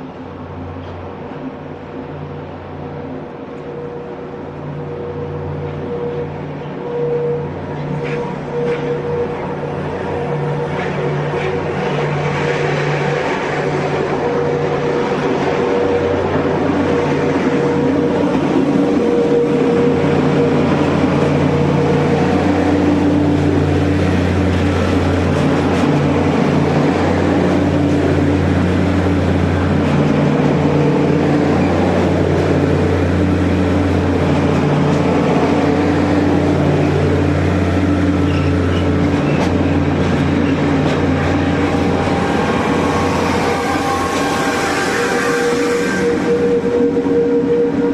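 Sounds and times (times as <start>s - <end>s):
diesel train engine drone: 0.0s - 47.9s.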